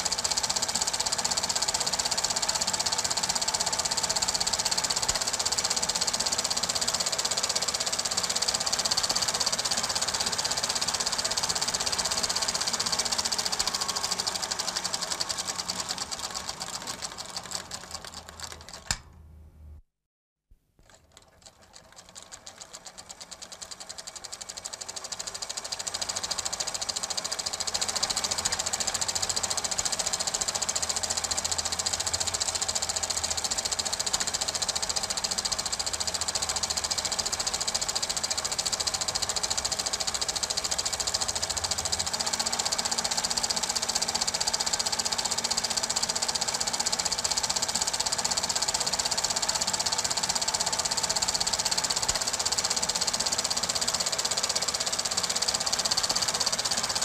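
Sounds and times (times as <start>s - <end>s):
film projector clattering: 0.0s - 19.1s, 20.8s - 57.0s.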